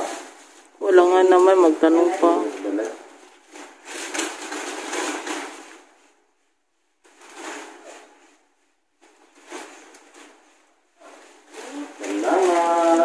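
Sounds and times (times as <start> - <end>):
papers rustling: 0.0 - 13.0
plastic bag rustling: 0.0 - 13.0.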